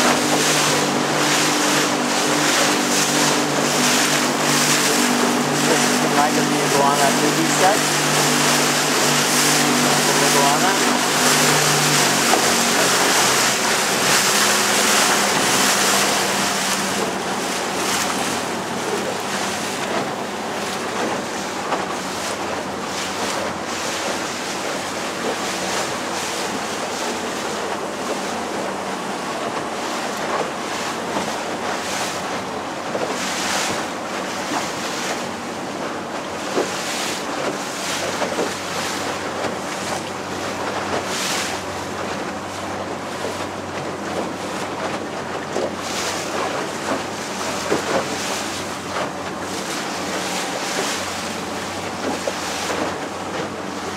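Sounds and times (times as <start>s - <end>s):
boat motor running: 0.0s - 53.9s
water rushing past hull: 0.0s - 53.9s
water splashes: 0.0s - 53.9s.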